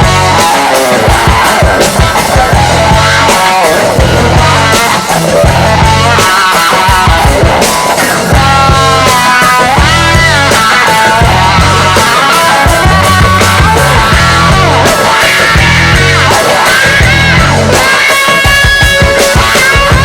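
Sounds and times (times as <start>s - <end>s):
rock music with pulsing bass: 0.0s - 20.0s.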